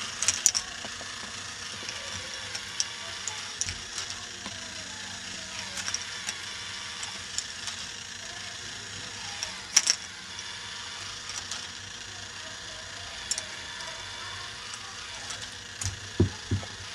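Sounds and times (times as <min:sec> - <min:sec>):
plastic mechanism clattering: 0:00.0 - 0:10.0, 0:13.0 - 0:16.9.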